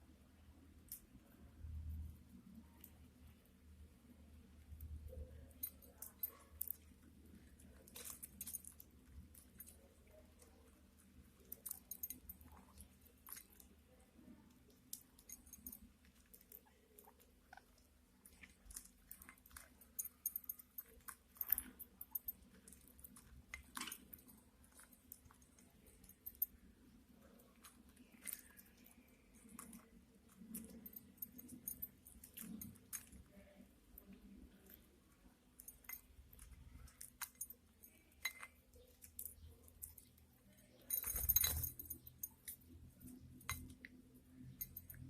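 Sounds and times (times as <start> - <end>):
birds pecking and chewing food: 0.0 - 45.0.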